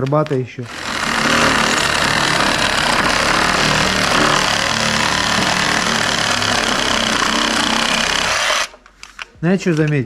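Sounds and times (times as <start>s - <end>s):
reciprocating saw cutting wood: 0.7s - 8.8s.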